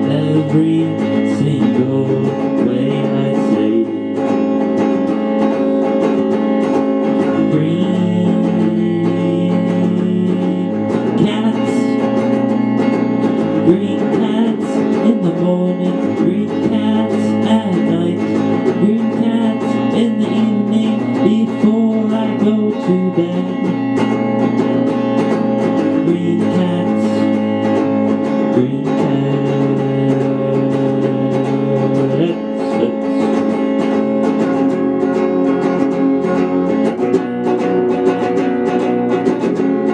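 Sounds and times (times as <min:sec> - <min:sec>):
electric guitar: 0:00.0 - 0:39.9.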